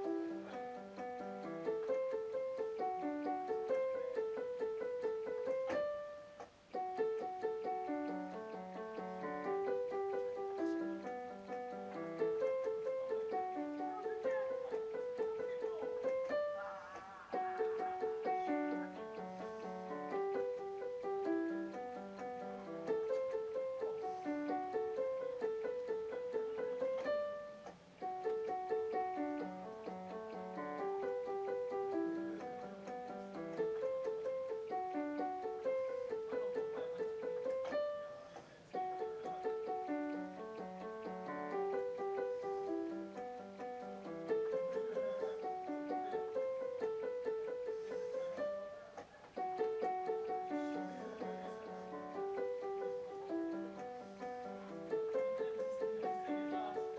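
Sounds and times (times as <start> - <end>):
electronic keyboard piano melody: 0.0 - 56.9.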